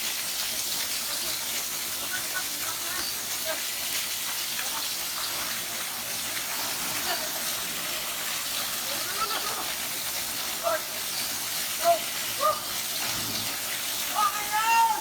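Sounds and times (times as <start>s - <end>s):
waterfall rushing: 0.8s - 15.0s.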